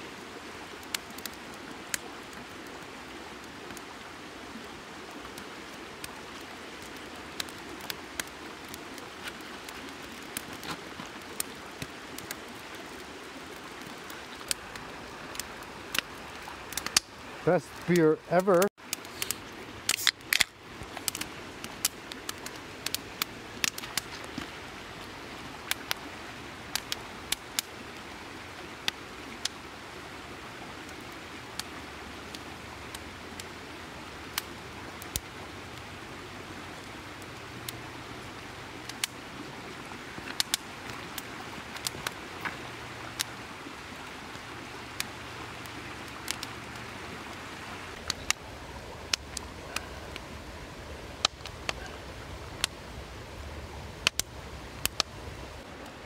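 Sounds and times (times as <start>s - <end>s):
campfire crackling and popping: 0.0s - 56.0s
creek rushing: 0.0s - 56.0s.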